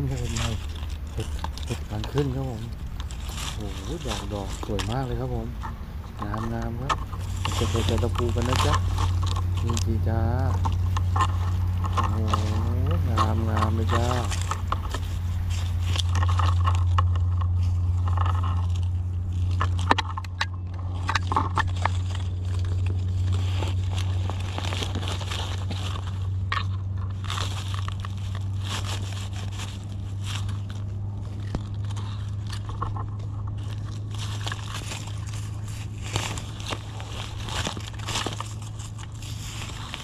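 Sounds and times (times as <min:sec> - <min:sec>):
dry leaves and twigs crunching: 0:00.0 - 0:40.0
low hum: 0:00.0 - 0:40.0.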